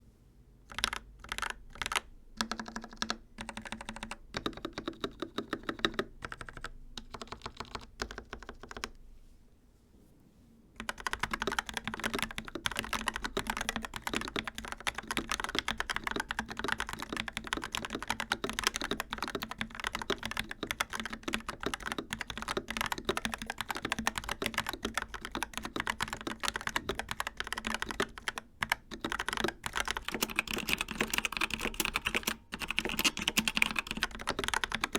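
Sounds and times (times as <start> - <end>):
typing on mechanical keyboard: 0.7 - 9.0, 10.8 - 34.9.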